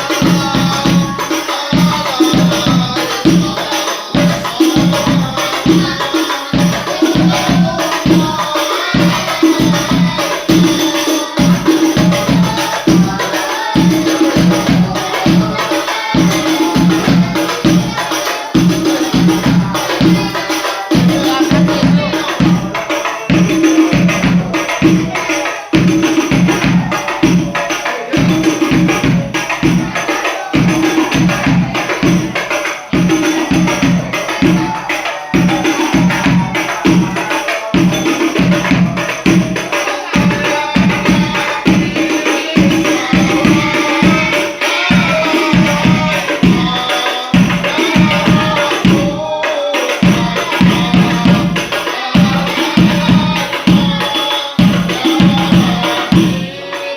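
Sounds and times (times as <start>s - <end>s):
devotional singing: 0.0s - 56.9s
frame drums with jingles: 0.0s - 56.9s.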